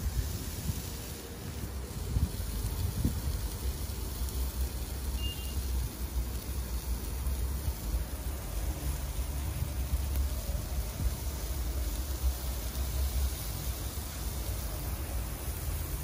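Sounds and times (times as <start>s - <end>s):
wind rumbling on microphone: 0.0s - 5.0s, 5.7s - 16.0s.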